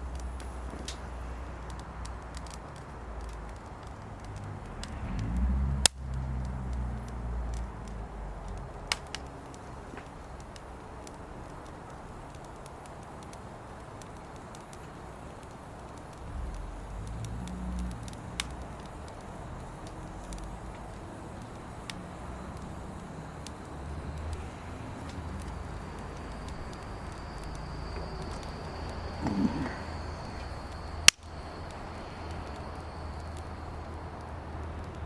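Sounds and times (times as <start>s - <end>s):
firewood crackling and popping: 0.0s - 35.0s.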